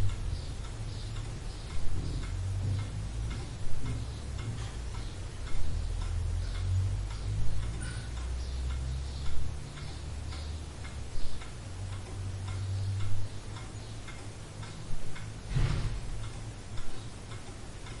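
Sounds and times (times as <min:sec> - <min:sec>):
clock ticking: 0:00.0 - 0:18.0
low room hum: 0:00.0 - 0:18.0.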